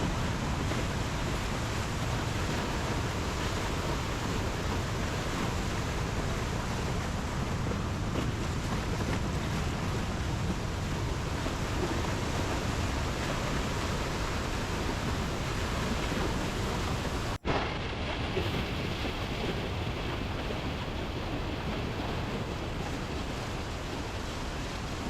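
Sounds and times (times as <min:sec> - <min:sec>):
rushing river rapids: 0:00.0 - 0:25.0.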